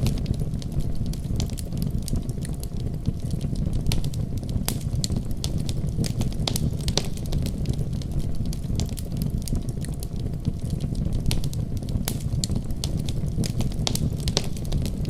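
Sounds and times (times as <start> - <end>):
storm wind rumble: 0.0 - 15.0
wood fire crackling: 0.0 - 15.0.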